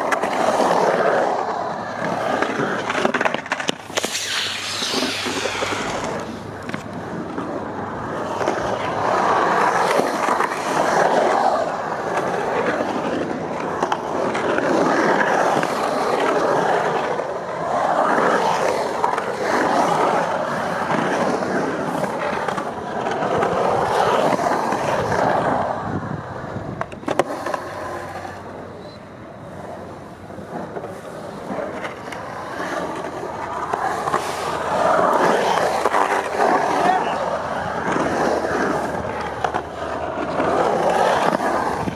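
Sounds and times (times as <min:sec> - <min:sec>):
skateboard wheels rolling on concrete: 0:00.0 - 0:41.9.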